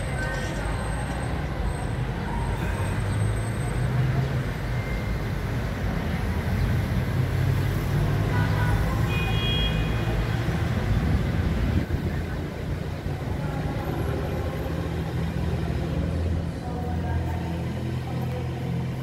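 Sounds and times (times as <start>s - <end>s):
traffic engines humming: 0.0s - 19.0s.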